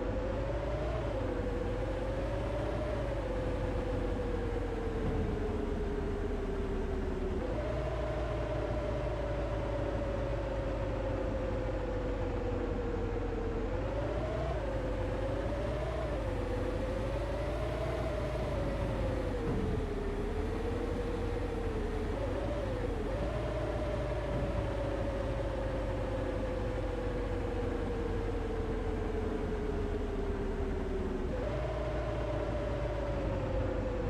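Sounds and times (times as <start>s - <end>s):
bus engine and road noise: 0.0s - 34.0s.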